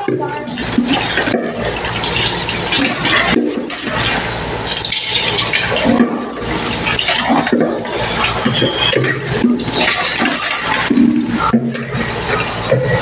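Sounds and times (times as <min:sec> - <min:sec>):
tap water pouring and splashing: 0:00.0 - 0:13.0.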